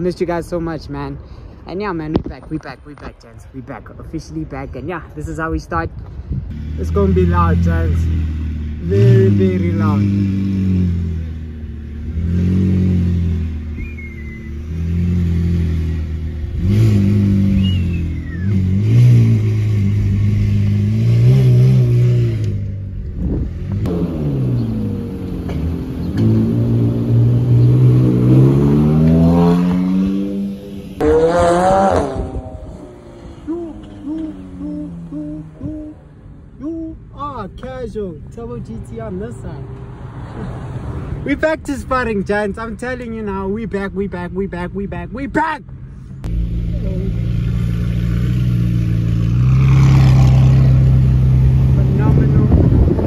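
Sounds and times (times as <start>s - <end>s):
car engine revving: 6.4s - 44.8s, 46.2s - 53.0s.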